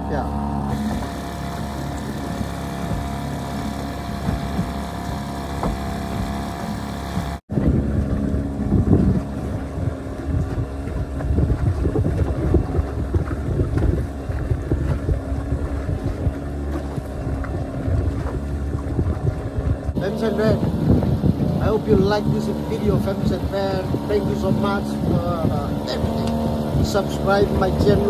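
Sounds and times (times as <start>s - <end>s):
outboard motor running: 0.0s - 28.0s
wind buffeting microphone: 0.0s - 28.0s.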